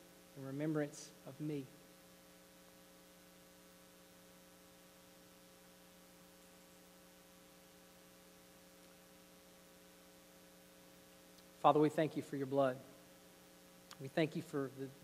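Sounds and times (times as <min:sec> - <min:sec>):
electrical mains hum: 0:00.0 - 0:15.0
faint hiss: 0:00.0 - 0:15.0.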